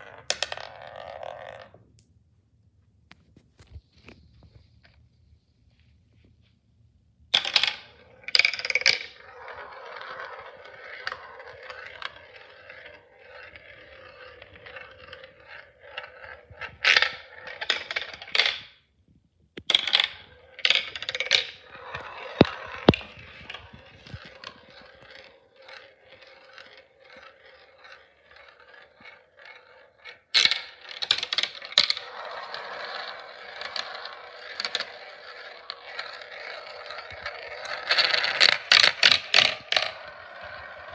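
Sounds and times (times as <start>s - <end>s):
marbles clacking on plastic: 0.0s - 1.8s, 7.4s - 18.7s, 19.6s - 40.9s
marbles rolling on plastic track: 0.0s - 1.8s, 7.4s - 18.8s, 19.6s - 40.9s.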